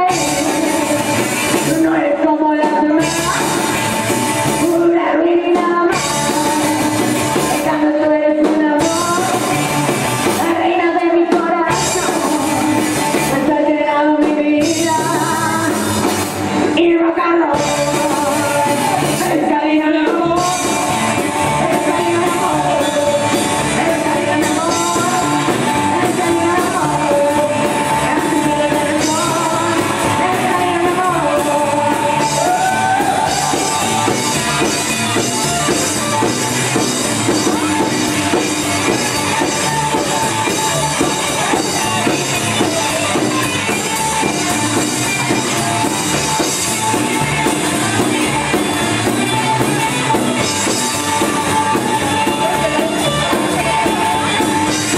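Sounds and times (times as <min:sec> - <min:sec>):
person singing: 0:00.0 - 0:54.9
rockabilly band playing: 0:00.0 - 0:54.9.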